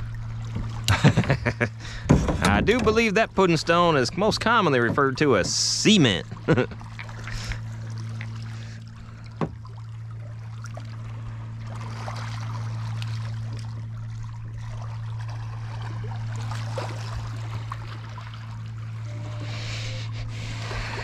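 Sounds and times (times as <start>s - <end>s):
steady low hum: 0.0s - 21.0s
water lapping around kayak: 0.0s - 21.0s.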